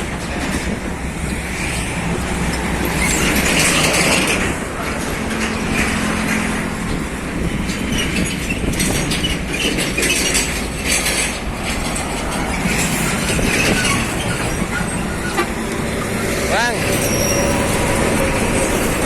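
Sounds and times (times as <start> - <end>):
heavy truck engine passing: 0.0 - 19.0
trailer load rattling and clanking: 0.0 - 19.0.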